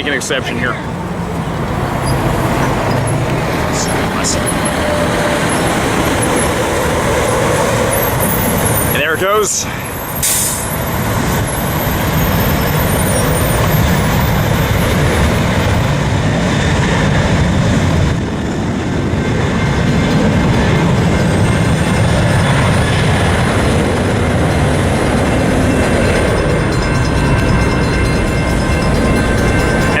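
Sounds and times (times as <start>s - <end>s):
jet engines at takeoff: 0.0s - 30.0s.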